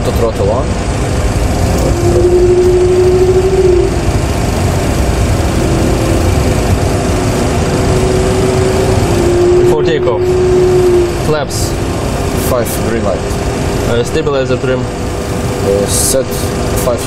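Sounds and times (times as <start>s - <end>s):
jet engines idling: 0.0s - 17.0s
steady hum: 0.0s - 17.0s.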